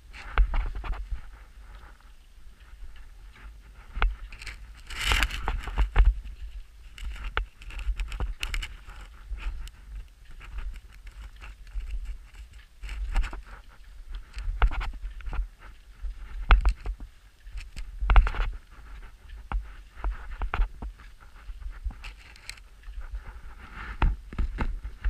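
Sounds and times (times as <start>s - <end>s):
footsteps crunching in snow: 0.0s - 25.0s
wind rumble on microphone: 0.0s - 25.0s.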